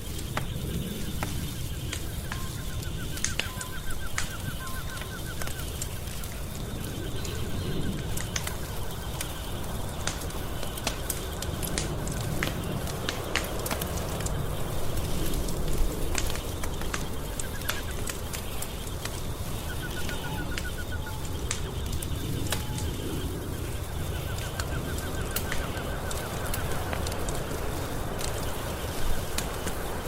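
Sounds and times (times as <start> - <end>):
low fire roar: 0.0 - 30.0
wood fire crackling and popping: 0.0 - 30.0.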